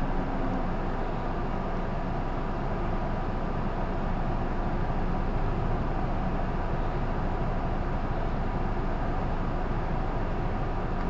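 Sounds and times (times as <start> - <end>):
bus diesel engine drone: 0.0 - 11.0
road noise: 0.0 - 11.0.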